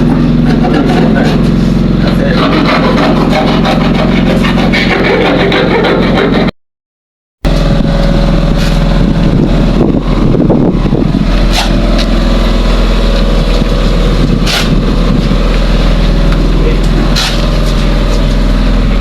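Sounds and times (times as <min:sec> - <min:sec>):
engine running: 0:00.0 - 0:06.5, 0:07.4 - 0:19.0.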